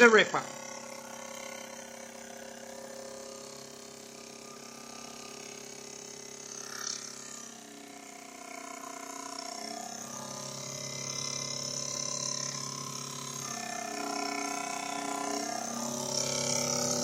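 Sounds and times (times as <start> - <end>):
toy steam engine whine: 0.0 - 17.0.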